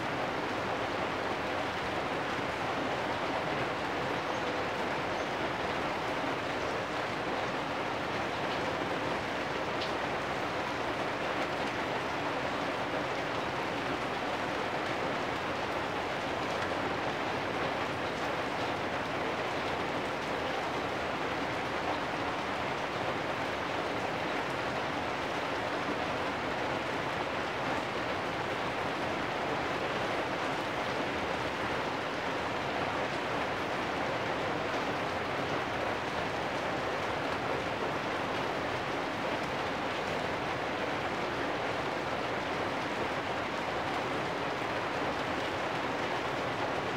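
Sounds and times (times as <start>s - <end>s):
rain on metal roofs: 0.0s - 46.9s.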